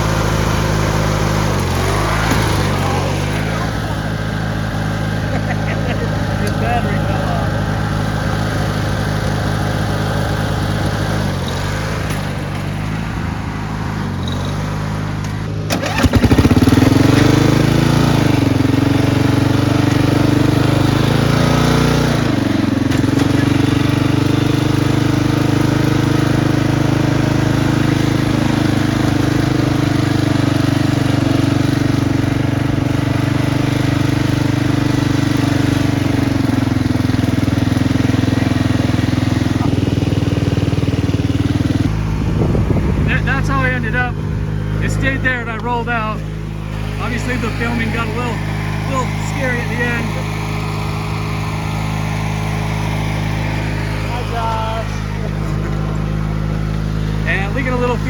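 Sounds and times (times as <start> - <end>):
riding lawn mower engine running: 0.0 - 58.0.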